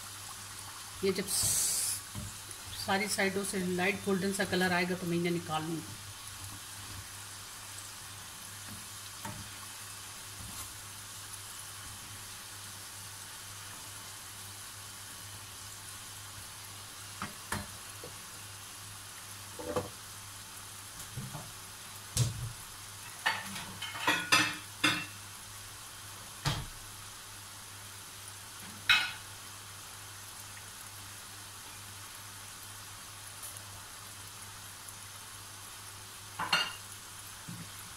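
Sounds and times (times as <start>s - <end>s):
food deep-frying in oil: 0.0s - 37.9s.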